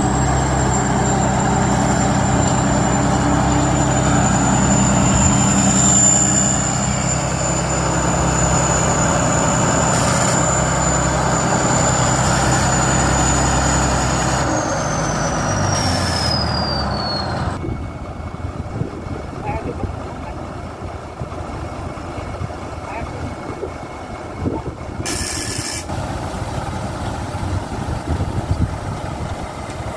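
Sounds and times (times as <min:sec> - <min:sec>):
high mechanical whine: 0:00.0 - 0:20.3, 0:23.1 - 0:29.9
combine harvester running: 0:00.0 - 0:29.9.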